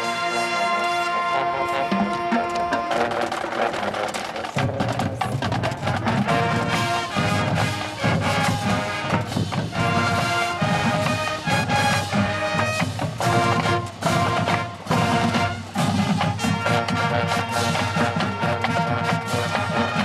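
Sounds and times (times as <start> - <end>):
brass chords: 0.0 - 5.0, 5.6 - 20.0
drum line and percussion: 0.0 - 20.0.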